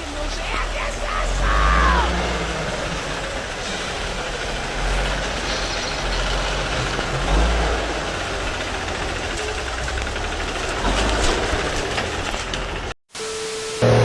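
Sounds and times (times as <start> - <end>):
heavy vehicle engine rumbling: 0.0 - 13.0.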